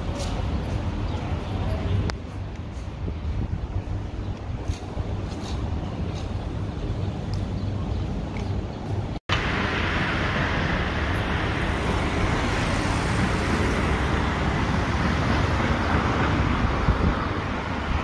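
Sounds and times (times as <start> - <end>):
road traffic rumble and hiss: 0.0 - 18.0.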